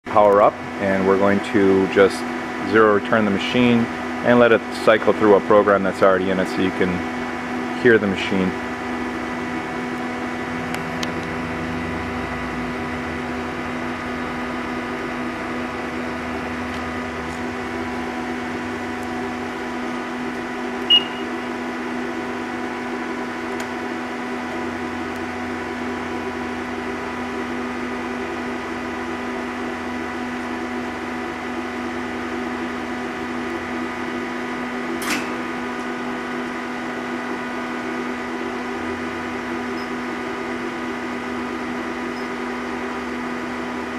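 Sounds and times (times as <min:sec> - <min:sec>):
lathe humming with whine: 0:00.1 - 0:43.9.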